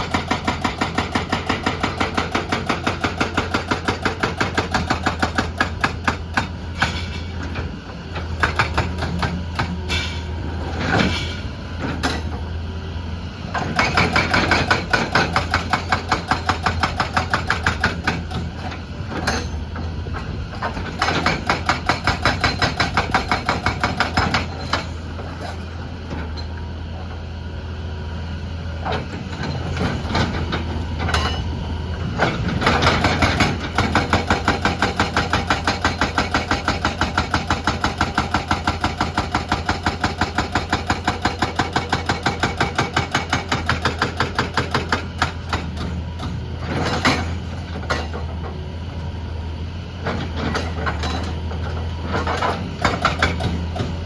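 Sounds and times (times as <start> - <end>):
hydraulic rock breaker hammering: 0.0 - 12.5, 13.5 - 25.6, 28.8 - 48.6, 50.0 - 54.0.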